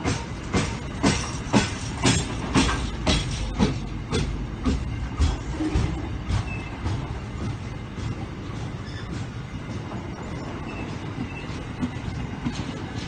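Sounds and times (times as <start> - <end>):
freight train rumbling: 0.0 - 13.0
train wheels clacking on rails: 0.0 - 13.0.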